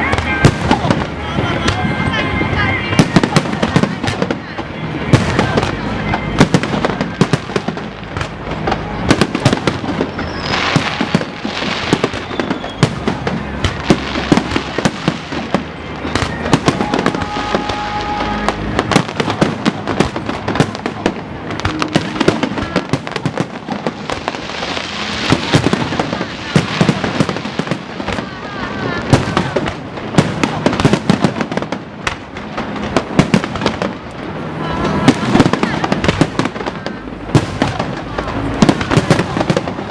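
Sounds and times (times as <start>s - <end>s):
fireworks bangs and pops: 0.0s - 39.9s
fireworks crackling: 0.0s - 39.9s.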